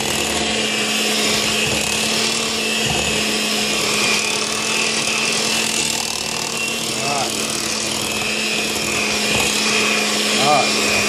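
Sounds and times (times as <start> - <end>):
electric mixer humming: 0.0 - 11.0.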